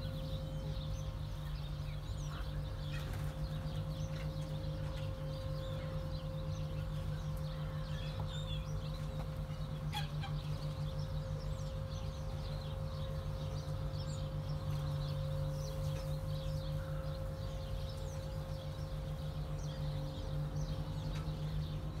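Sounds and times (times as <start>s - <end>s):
low steady hum: 0.0s - 22.0s
pheasants chirping and calling: 0.0s - 22.0s.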